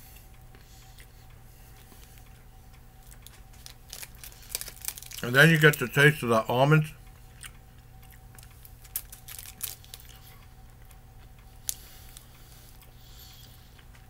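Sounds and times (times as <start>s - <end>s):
faint steady hum: 0.0s - 14.0s
person chewing: 0.2s - 5.3s, 7.2s - 14.0s.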